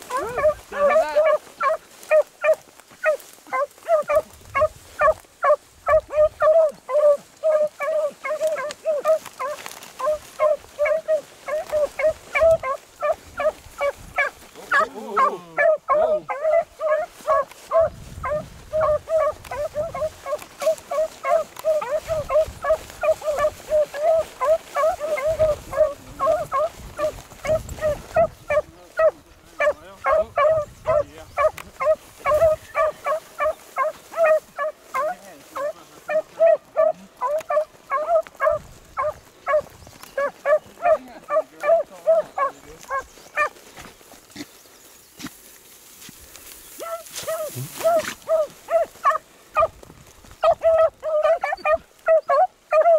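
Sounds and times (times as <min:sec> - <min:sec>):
dogs baying: 0:00.0 - 0:44.5, 0:46.7 - 0:52.9.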